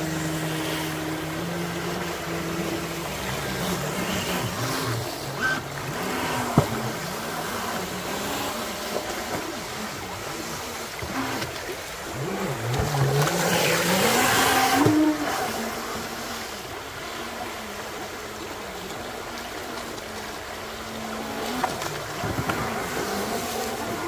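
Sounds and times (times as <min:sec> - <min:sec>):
electric boat motor whining: 0:00.0 - 0:24.0.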